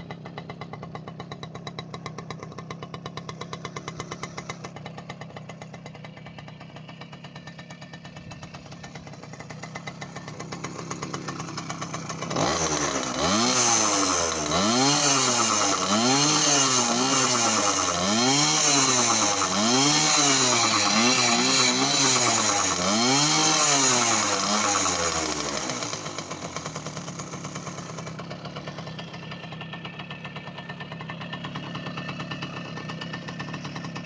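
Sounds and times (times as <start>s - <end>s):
moped engine revving and idling: 0.0s - 34.0s.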